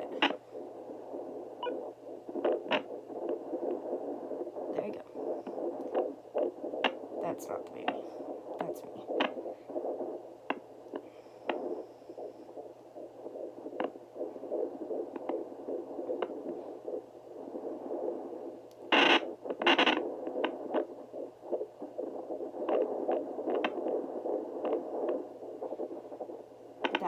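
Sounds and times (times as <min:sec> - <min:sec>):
static: 0:00.0 - 0:27.0
whooshing doppler heartbeat: 0:00.0 - 0:27.0.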